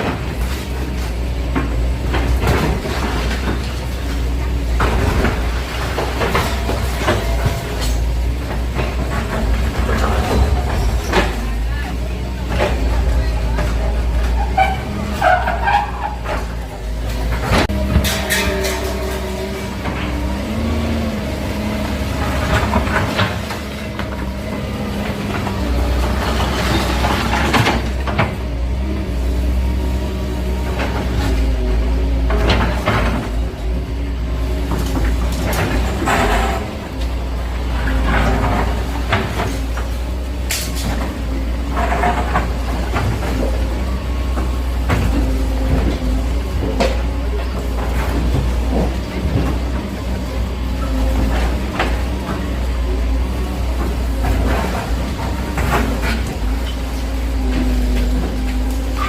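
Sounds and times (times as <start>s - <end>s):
knocks and clatter: 0.0s - 28.8s, 30.5s - 59.0s
diesel engine running: 0.0s - 59.0s.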